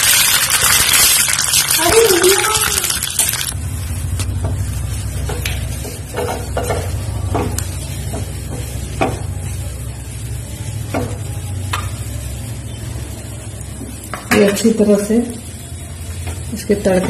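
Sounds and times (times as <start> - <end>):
light sizzling in oil: 0.0 - 17.0.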